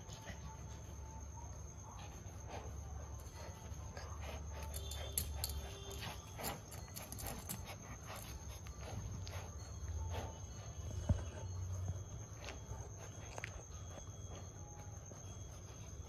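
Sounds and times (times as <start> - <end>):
soft dog noises: 0.0 - 16.0.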